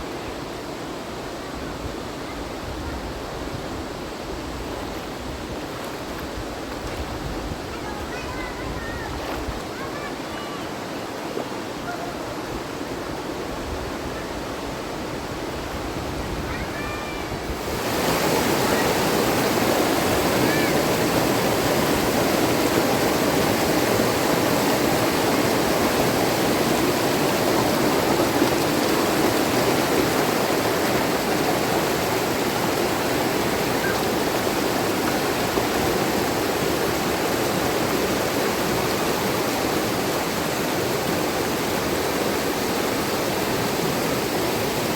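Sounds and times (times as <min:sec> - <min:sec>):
rushing river water: 0:00.0 - 0:44.9.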